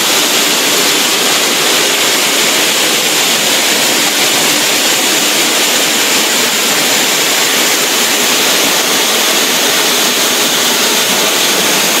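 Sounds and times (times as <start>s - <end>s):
spraying water: 0.0s - 12.0s.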